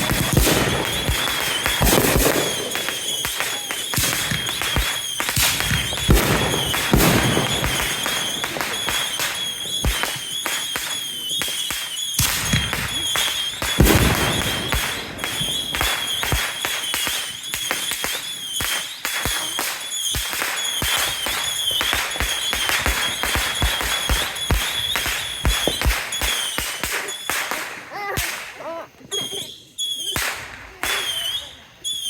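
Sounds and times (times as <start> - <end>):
loud firework booms: 0.0 - 28.6
fireworks bangs and crackles: 0.0 - 32.0.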